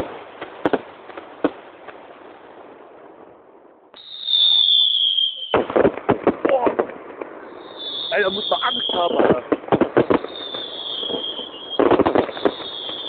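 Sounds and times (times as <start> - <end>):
whistling firework: 0.0 - 2.5, 3.9 - 13.0
firework bangs: 0.0 - 13.0.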